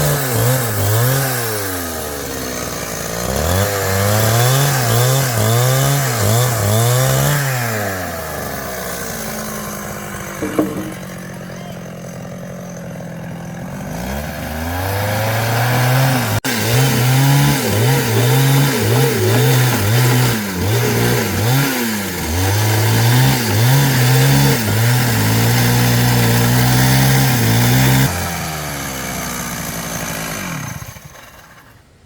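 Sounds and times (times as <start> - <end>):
small power tool engine revving: 0.0 - 31.8.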